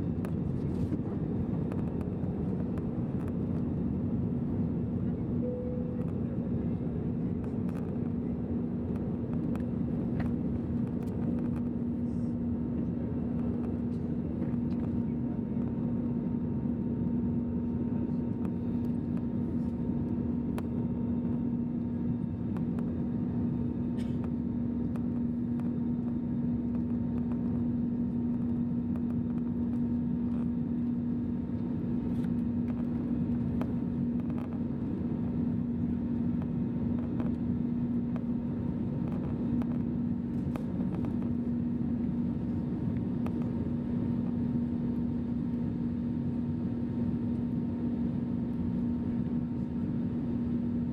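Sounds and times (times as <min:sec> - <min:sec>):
jet engine drone in cabin: 0:00.0 - 0:50.9.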